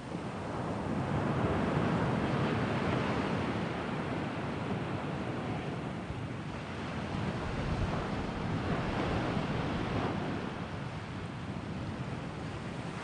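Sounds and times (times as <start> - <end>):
sea waves surf: 0.0 - 13.0
wind on microphone: 0.0 - 13.0.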